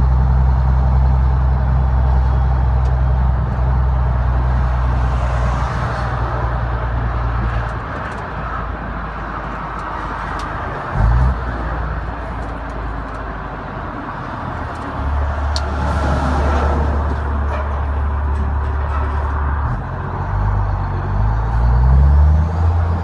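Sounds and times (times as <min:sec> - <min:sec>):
road noise: 0:00.0 - 0:23.0
truck diesel engine droning: 0:00.0 - 0:23.0.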